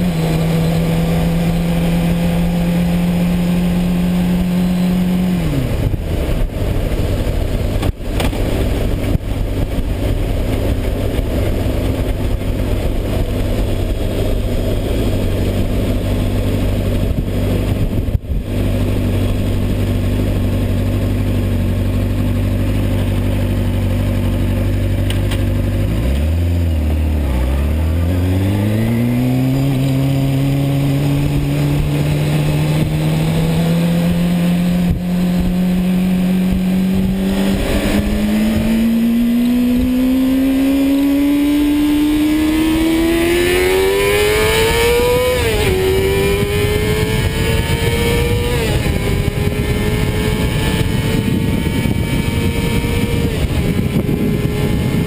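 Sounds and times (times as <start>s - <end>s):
motorcycle engine accelerating: 0.0s - 55.0s
wind noise rushing: 0.2s - 20.1s, 26.2s - 55.0s.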